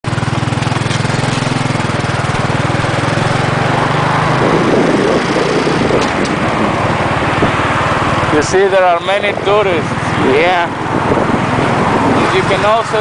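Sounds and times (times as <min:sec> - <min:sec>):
motorcycle engine running: 0:00.0 - 0:13.0
rough rushing noise: 0:00.1 - 0:13.0.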